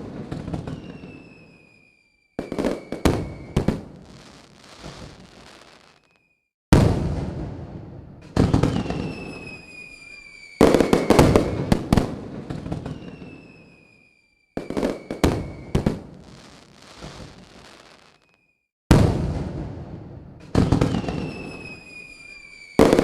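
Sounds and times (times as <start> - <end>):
fireworks cracks: 0.0 - 13.9, 14.6 - 23.0
fireworks booms: 0.0 - 18.3, 18.9 - 23.0
descending firework whistle: 0.1 - 6.5, 8.4 - 18.7, 20.5 - 23.0.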